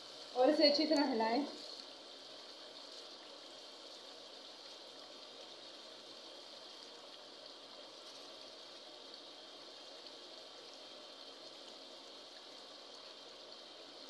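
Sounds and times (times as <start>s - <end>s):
oil sizzling and bubbling: 0.0s - 14.0s.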